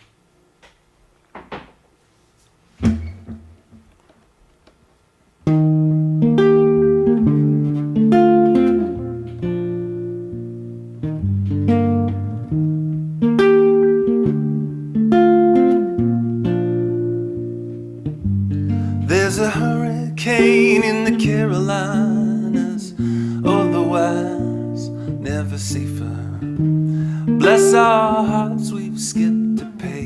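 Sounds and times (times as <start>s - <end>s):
guitar picking notes and chords: 2.8s - 4.0s, 5.4s - 30.0s.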